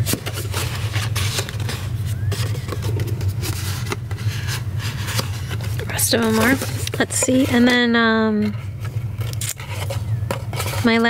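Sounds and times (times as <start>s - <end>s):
cardstock rustling and crackling: 0.0s - 11.0s
steady low hum: 0.0s - 11.0s.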